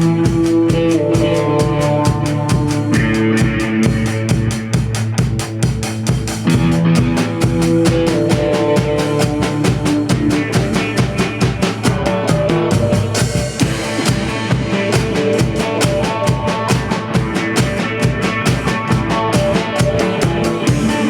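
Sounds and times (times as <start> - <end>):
drum kit fast beat: 0.0 - 21.0
rock band playing instrumental: 0.0 - 21.0.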